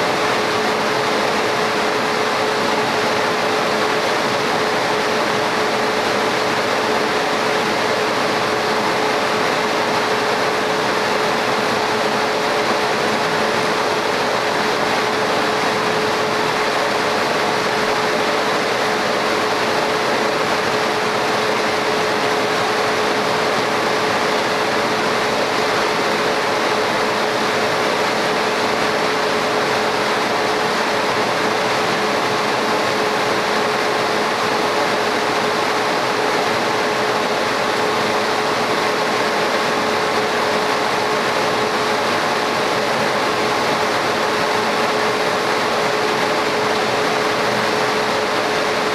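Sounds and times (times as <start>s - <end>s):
laser cutter fan whirring: 0.0s - 48.9s.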